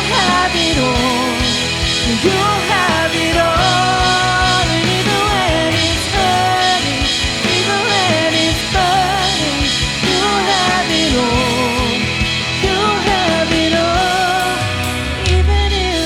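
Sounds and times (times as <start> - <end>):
rock style worship band music: 0.0 - 16.0.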